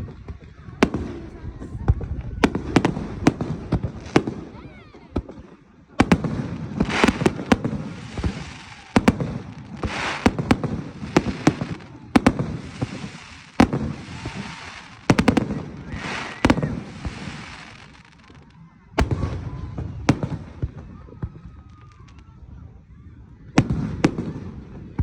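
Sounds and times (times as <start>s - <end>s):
fireworks booming: 0.0s - 21.6s
fireworks hissing and sizzling: 0.0s - 22.6s.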